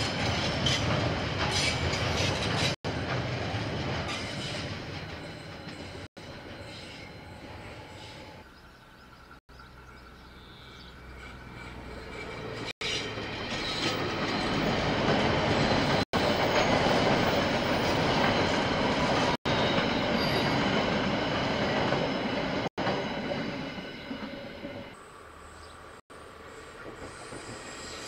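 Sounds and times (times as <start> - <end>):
train wheels rumbling on rails: 0.0 - 8.4, 10.9 - 25.0, 26.4 - 28.0.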